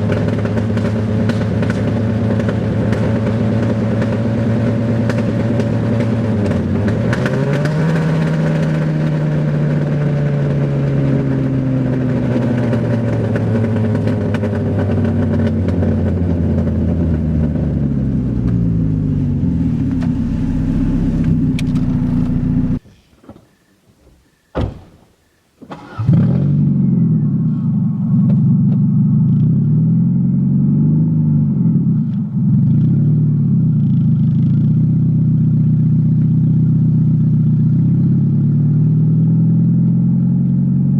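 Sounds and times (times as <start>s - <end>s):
loud car engine revving: 0.0s - 22.8s, 25.8s - 40.9s.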